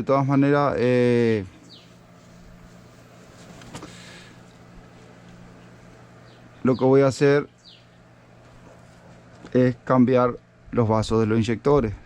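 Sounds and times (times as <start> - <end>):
faint low hum: 0.0 - 12.0
background hiss: 1.0 - 12.0.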